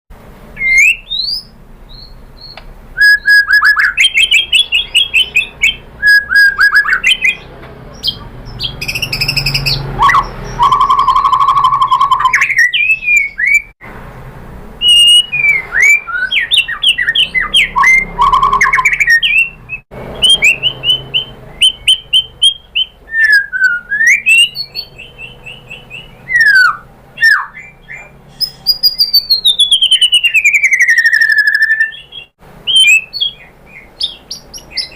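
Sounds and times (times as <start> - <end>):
songbird whistling and trilling: 0.6 - 13.8, 14.8 - 34.9.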